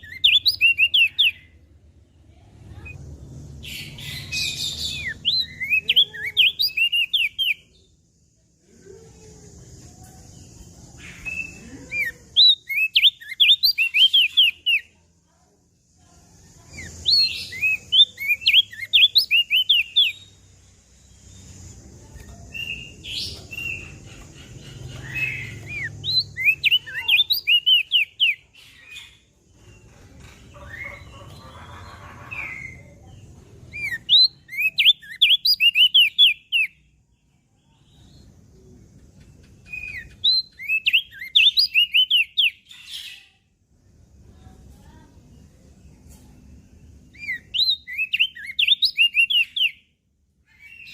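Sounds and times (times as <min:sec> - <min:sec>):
bird chirping song: 0:00.0 - 0:50.9.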